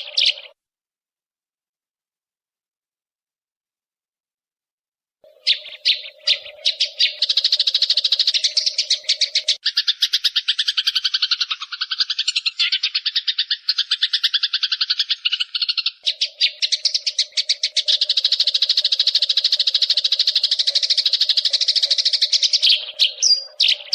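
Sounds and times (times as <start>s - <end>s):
sparrow chattering: 0.0s - 0.6s, 5.2s - 23.9s.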